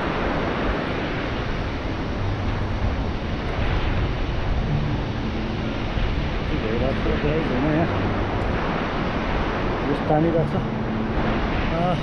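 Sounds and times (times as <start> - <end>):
river rapids roaring: 0.0 - 12.0
wind buffeting microphone: 0.0 - 12.0.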